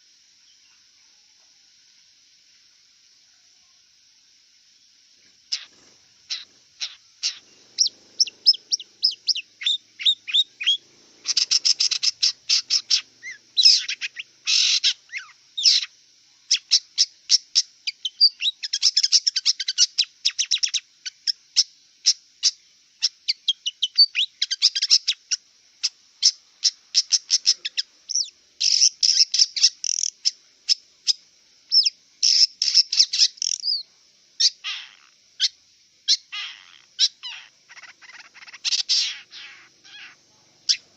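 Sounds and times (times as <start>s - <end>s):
steady high-pitched hiss: 0.0s - 40.9s
bird singing chattering song: 5.5s - 40.9s.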